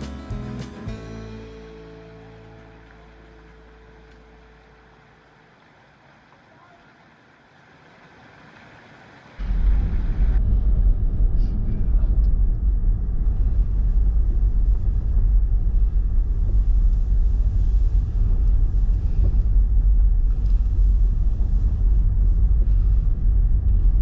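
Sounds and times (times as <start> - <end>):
road rumble inside car: 0.0 - 24.0.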